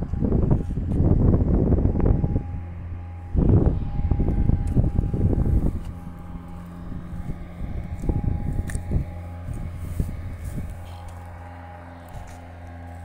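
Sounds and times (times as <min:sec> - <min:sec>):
low rumbles and knocks: 0:00.0 - 0:12.8
engine running: 0:00.0 - 0:13.0.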